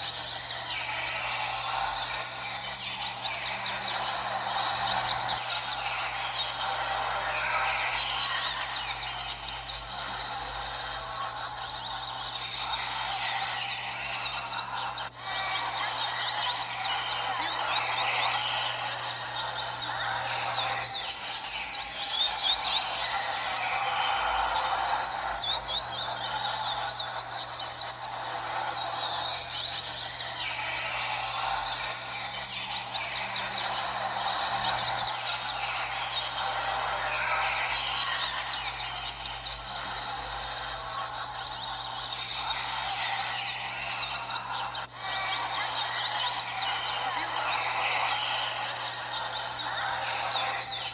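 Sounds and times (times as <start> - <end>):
chorus of birds singing: 0.0 - 50.9
steady background noise: 0.0 - 50.9.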